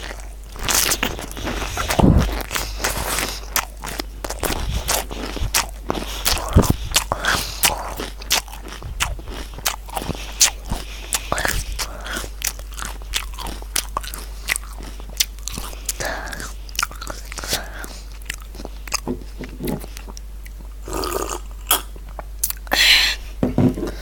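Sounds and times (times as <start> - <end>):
crunchy vegetables being chewed: 0.0 - 22.8.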